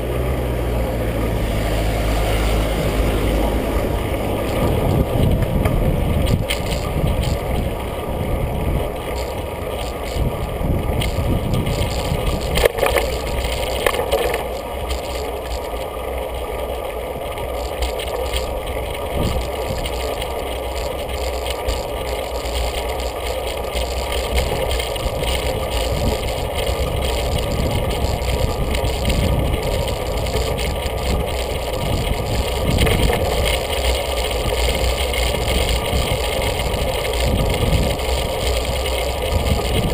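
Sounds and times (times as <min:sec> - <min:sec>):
tyres rumbling on road: 0:00.0 - 0:39.9
wind on microphone: 0:01.0 - 0:15.5, 0:18.4 - 0:23.1, 0:23.8 - 0:39.9.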